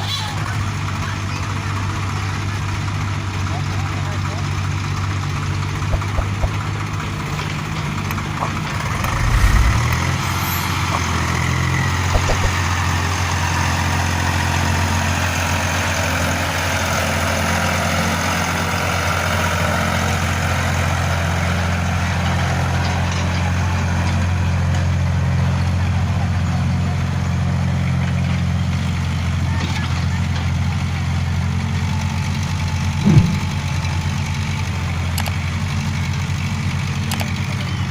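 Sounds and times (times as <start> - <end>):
diesel engine running: 0.1 - 37.9.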